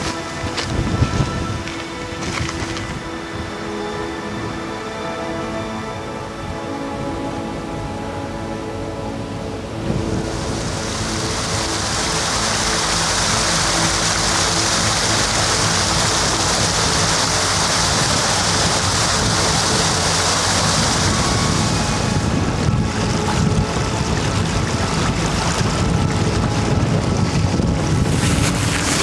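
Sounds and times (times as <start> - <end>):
wind buffeting microphone: 0.0 - 4.8, 9.5 - 29.0
stream rushing over rocks: 0.0 - 29.0.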